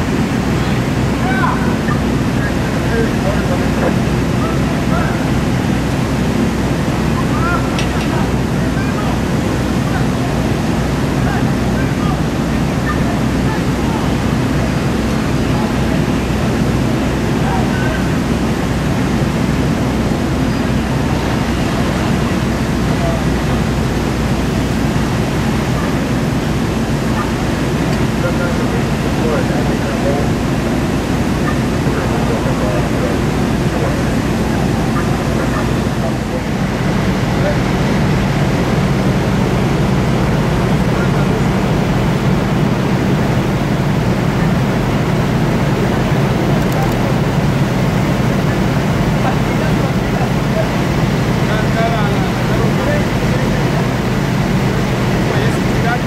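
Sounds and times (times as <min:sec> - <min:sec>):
fire roaring: 0:00.0 - 0:56.0
rushing water streams: 0:00.0 - 0:56.0.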